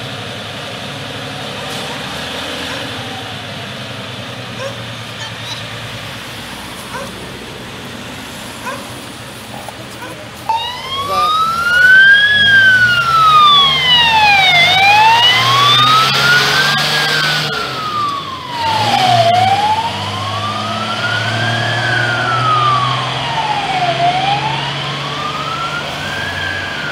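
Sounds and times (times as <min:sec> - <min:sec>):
fire truck siren wailing: 0:00.0 - 0:05.3, 0:10.2 - 0:26.9
diesel engine running: 0:00.0 - 0:26.9.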